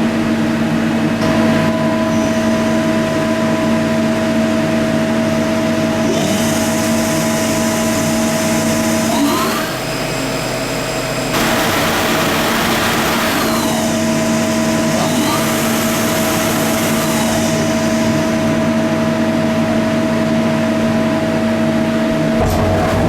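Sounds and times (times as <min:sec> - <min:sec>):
lathe machine hum with whine: 0:00.0 - 0:23.0.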